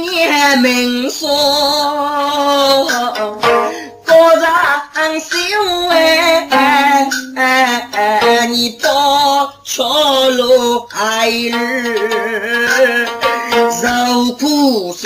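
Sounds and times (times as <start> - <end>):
solo voice singing: 0.0 - 15.0.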